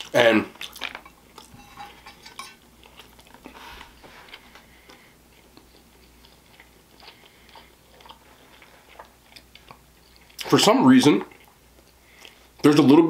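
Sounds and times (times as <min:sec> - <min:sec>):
person chewing food: 0:00.0 - 0:10.5, 0:11.2 - 0:12.7.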